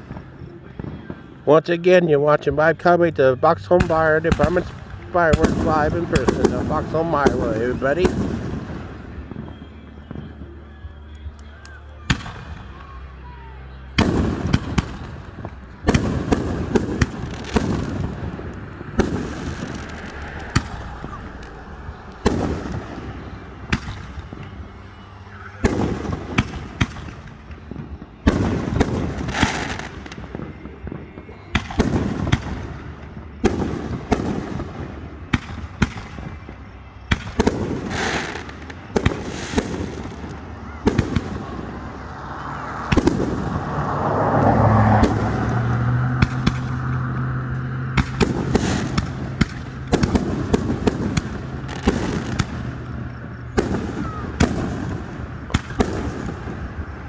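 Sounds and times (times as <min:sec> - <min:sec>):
fireworks booming: 0:00.0 - 0:12.9, 0:13.9 - 0:57.0
fireworks crackling: 0:00.0 - 0:57.0.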